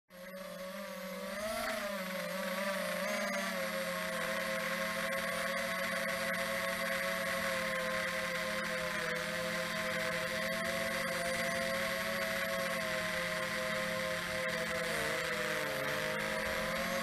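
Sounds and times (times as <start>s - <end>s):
drone propellers humming: 0.1s - 17.0s.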